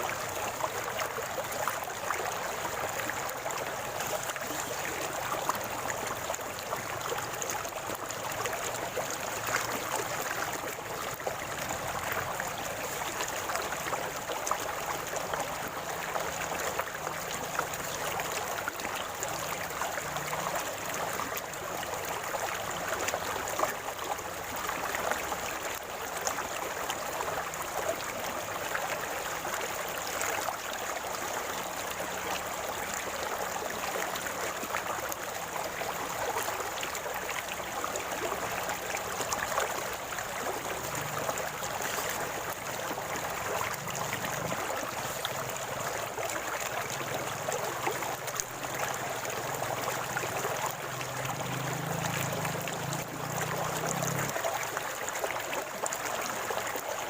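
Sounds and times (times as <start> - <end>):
river water gurgling and rushing: 0.0 - 57.0.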